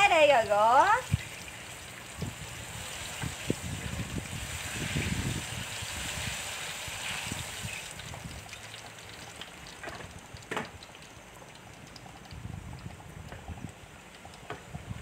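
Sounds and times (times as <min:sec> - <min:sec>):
hot oil sizzling and bubbling: 0:00.0 - 0:15.0.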